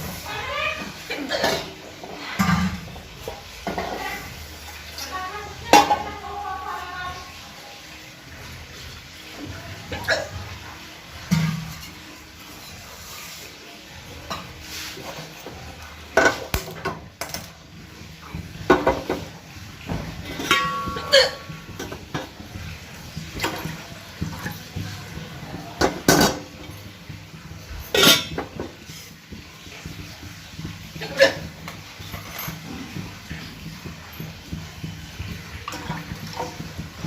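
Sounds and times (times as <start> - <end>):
utensils and dishes clattering: 0.0 - 37.0.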